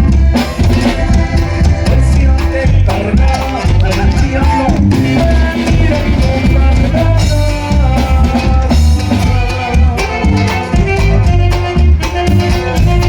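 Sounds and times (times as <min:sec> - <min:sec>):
band playing instrumental music: 0:00.0 - 0:13.0
drum kit and bass beat: 0:00.0 - 0:13.0.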